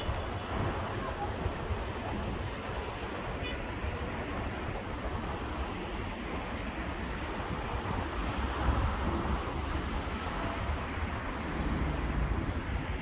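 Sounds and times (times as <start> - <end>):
outdoor street noise: 0.0 - 13.0
traffic rumble: 0.0 - 13.0.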